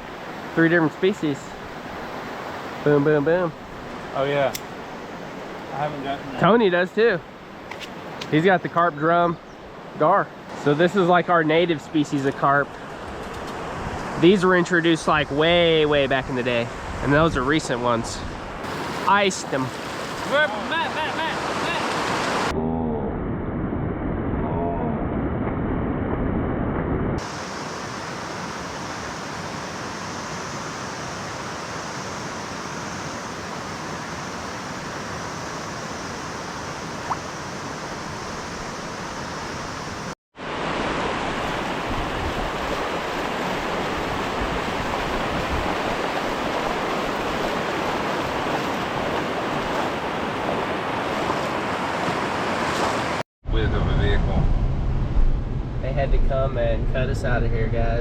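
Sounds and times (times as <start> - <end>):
flowing water rushing: 0.0 - 22.5, 27.2 - 53.2.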